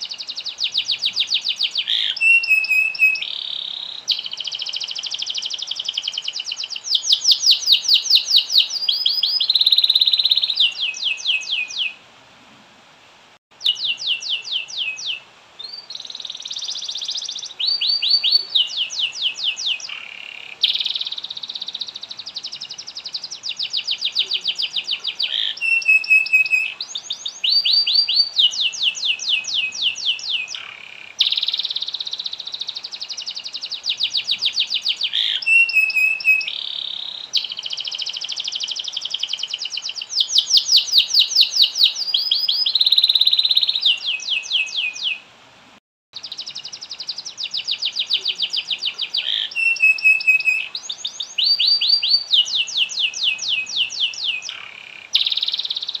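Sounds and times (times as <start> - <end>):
canary singing trills: 0.0 - 12.0, 13.5 - 45.2, 46.2 - 56.0.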